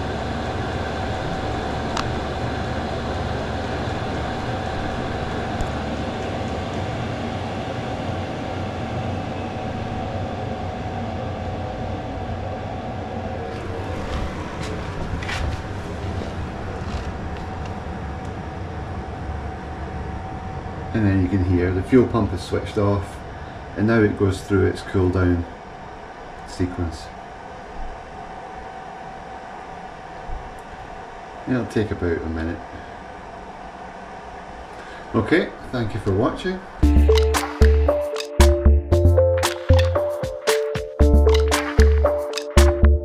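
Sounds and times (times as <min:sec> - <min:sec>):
constant hum: 0:00.0 - 0:38.0
blower fan whirring: 0:00.0 - 0:43.0.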